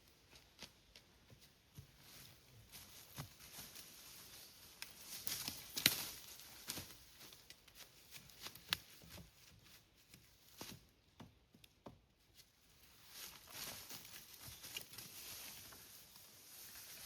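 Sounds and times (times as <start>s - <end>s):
forest floor litter rustling: 0.3s - 10.9s, 12.3s - 17.0s.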